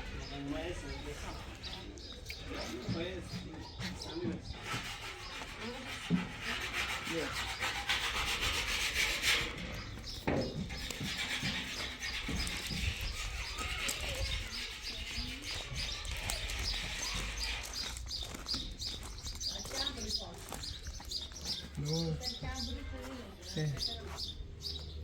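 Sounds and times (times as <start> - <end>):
faint talk from people: 0.0 - 25.0
small birds chirping: 0.0 - 25.0.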